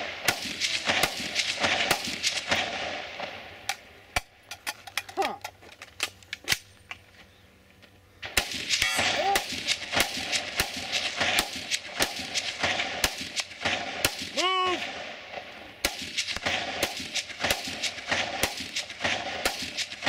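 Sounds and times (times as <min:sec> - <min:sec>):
rifle gunfire: 0:00.0 - 0:04.4, 0:08.2 - 0:20.0.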